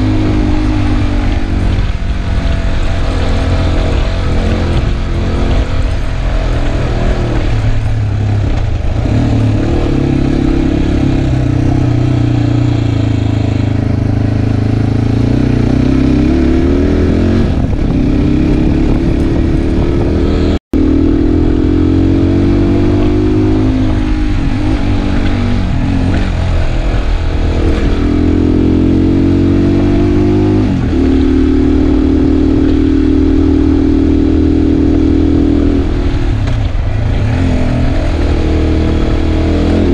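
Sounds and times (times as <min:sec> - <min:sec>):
motorcycle engine revving: 0:00.0 - 0:39.9
road and wind noise: 0:00.0 - 0:39.9.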